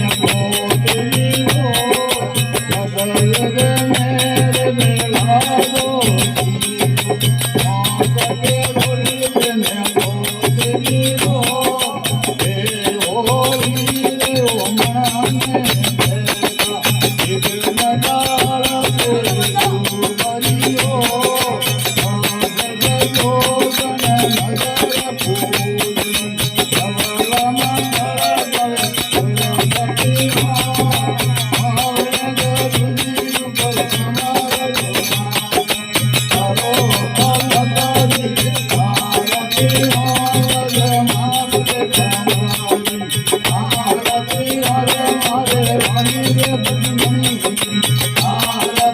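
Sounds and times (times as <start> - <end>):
jingling hand percussion: 0.0 - 48.9
person singing devotional song: 0.0 - 48.9.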